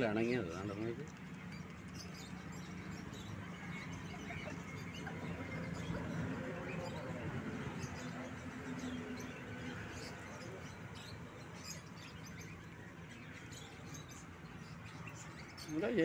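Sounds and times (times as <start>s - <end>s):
cage birds chirping: 0.0s - 16.0s.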